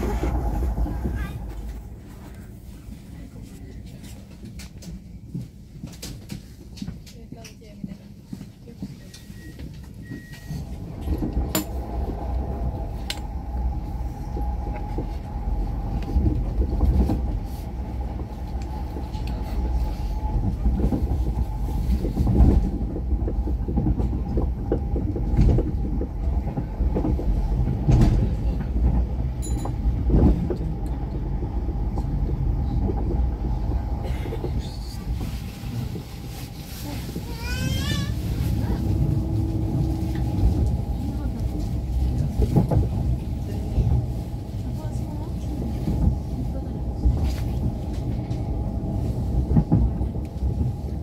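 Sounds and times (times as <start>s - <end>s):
wheels rumbling on track: 0.0s - 51.0s.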